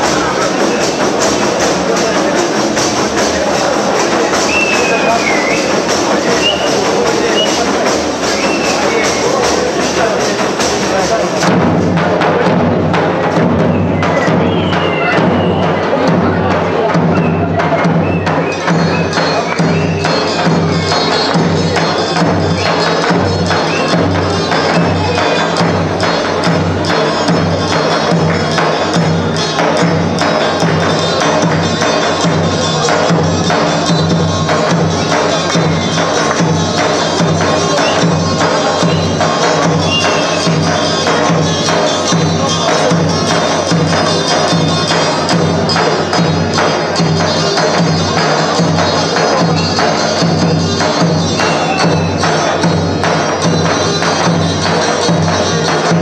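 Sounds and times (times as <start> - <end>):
folk music ensemble: 0.0 - 56.0
jingling frame drum beat: 0.0 - 56.0.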